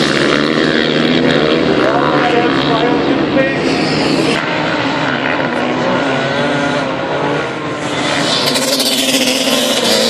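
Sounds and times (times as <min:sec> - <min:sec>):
racing motorcycle engines revving: 0:00.0 - 0:10.0.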